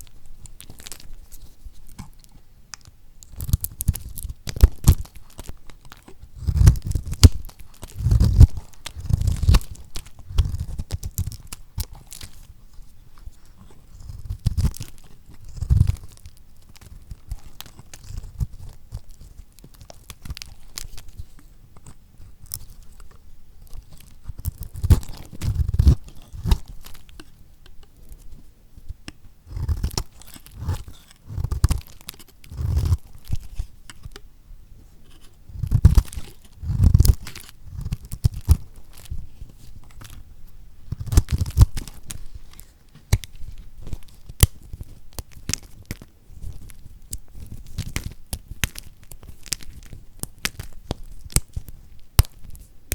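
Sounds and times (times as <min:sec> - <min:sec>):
knife cutting crunchy soap: 0:03.2 - 0:12.5, 0:13.4 - 0:28.2, 0:29.1 - 0:34.2, 0:35.0 - 0:40.2, 0:40.8 - 0:52.6.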